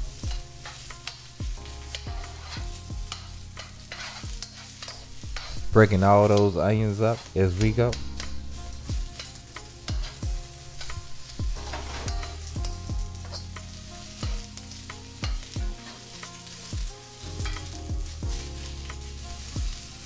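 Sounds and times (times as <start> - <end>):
vegetables sizzling in oil: 0.0 - 20.0
metal spoon scraping wok: 0.3 - 12.5, 13.2 - 17.8.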